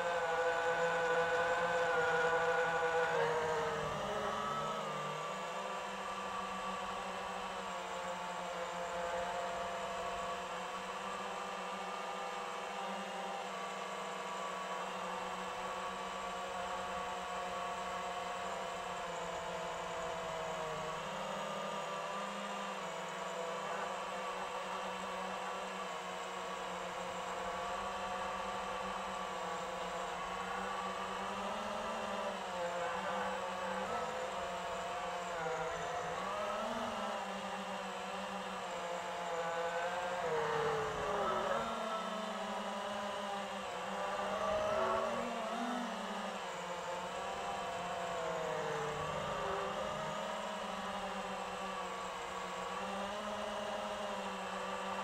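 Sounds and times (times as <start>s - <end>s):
drone motors whining: 0.0s - 55.0s.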